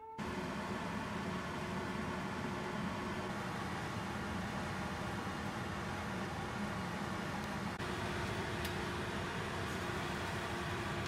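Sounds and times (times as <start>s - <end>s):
steady rushing kitchen noise: 0.2s - 11.0s.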